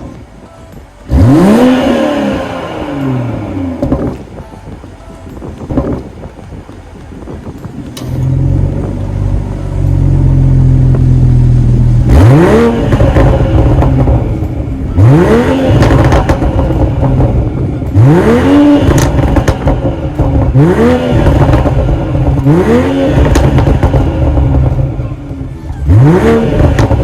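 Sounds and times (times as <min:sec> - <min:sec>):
car engine revving: 0:01.0 - 0:04.4, 0:07.1 - 0:27.0.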